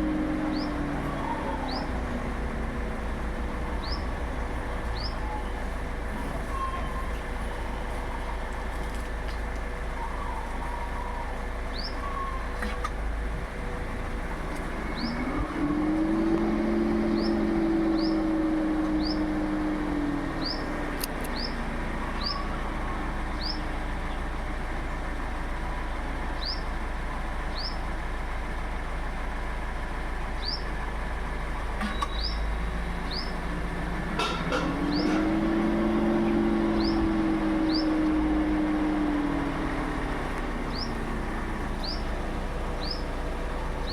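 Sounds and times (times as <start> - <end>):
birds chirping: 0.0 - 29.0, 29.9 - 43.9.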